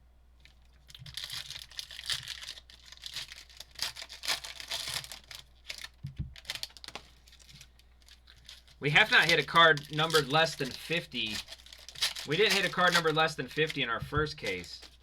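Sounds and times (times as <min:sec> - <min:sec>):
foil wrapper crinkling and tearing: 0:00.4 - 0:15.0.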